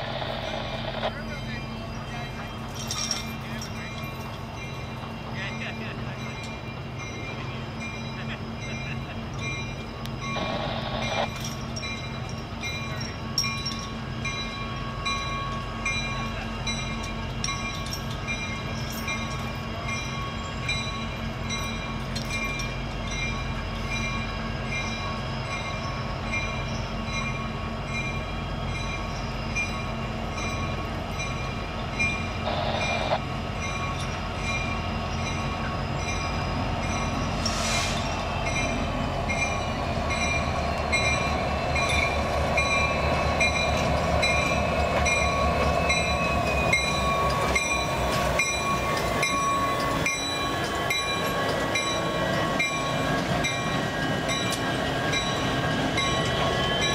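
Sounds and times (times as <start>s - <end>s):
diesel locomotive rumbling: 0.0s - 56.9s
train wheels rolling: 0.0s - 56.9s.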